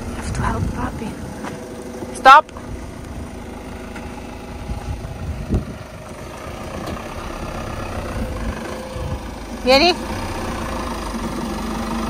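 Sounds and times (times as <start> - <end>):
diesel van engine running: 0.0 - 12.0.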